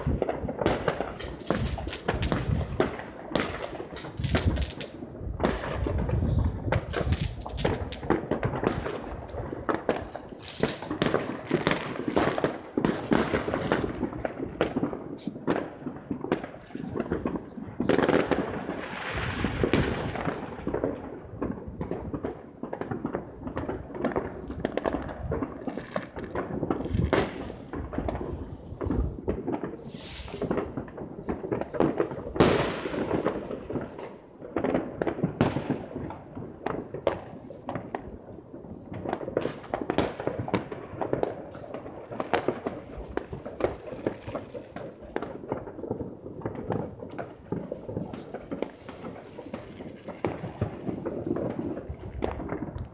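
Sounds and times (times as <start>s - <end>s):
fireworks and firecrackers bangs: 0.0s - 52.9s.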